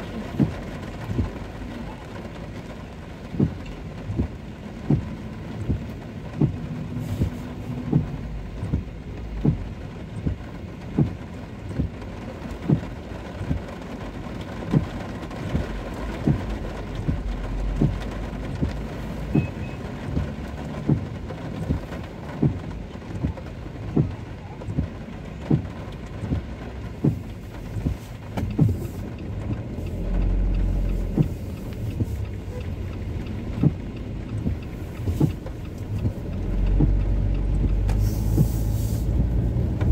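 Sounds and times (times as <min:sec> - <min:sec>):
engine and tyre rumble: 0:00.0 - 0:39.9
rain on car windshield: 0:00.0 - 0:39.9
windshield wipers thumping: 0:00.0 - 0:39.9.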